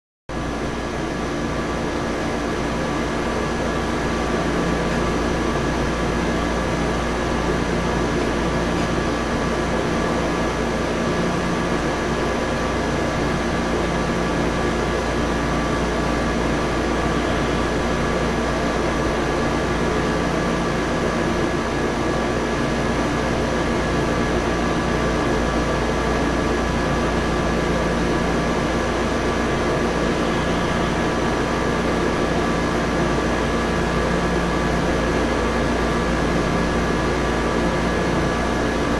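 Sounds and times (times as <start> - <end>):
steady mechanical hum: 0.3 - 38.9.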